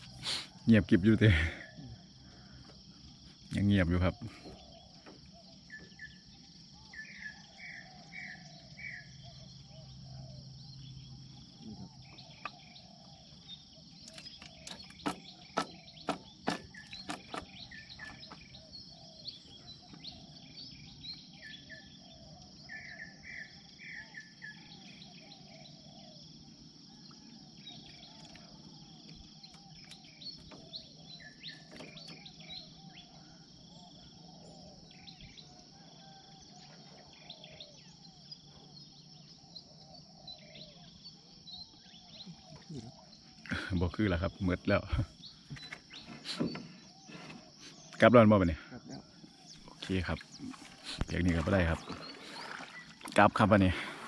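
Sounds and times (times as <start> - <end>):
birds chirping: 0.0 - 54.0
high insect drone: 0.0 - 54.0.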